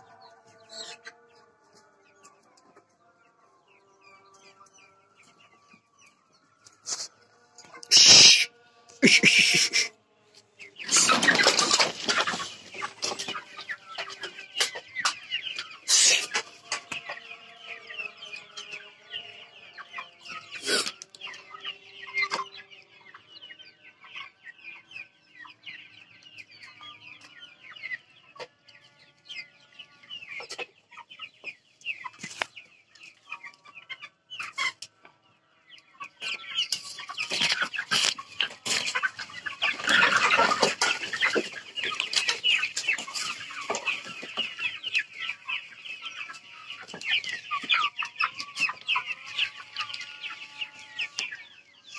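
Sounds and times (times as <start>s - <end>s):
flock of chickens clucking: 0.0s - 51.9s.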